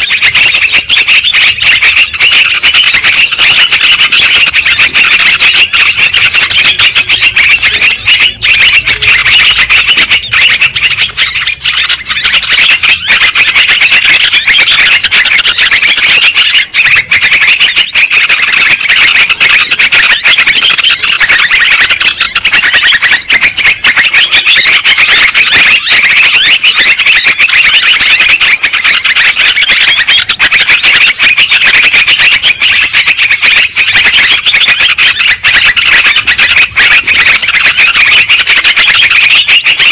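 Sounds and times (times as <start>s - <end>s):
birds chattering calls: 0.0s - 39.9s.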